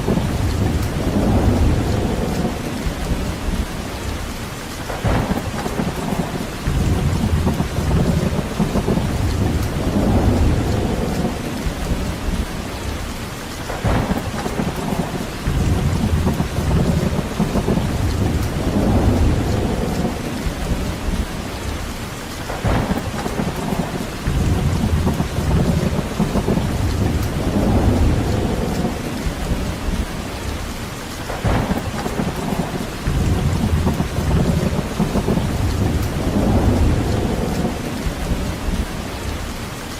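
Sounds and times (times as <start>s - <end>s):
deep rumbles of thunder: 0.0s - 39.7s
rain falling: 0.0s - 39.9s.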